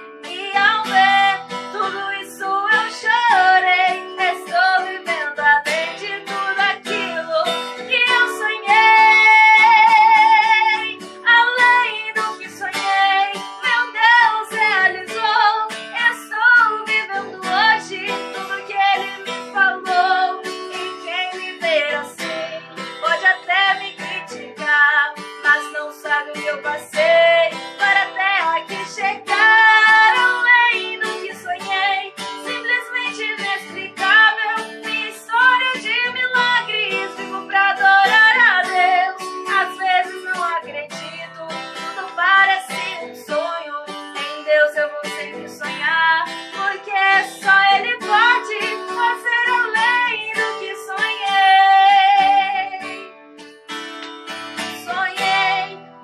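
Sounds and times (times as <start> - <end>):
person singing: 0.0 - 53.1, 54.4 - 56.0
strummed acoustic guitar: 0.0 - 56.0.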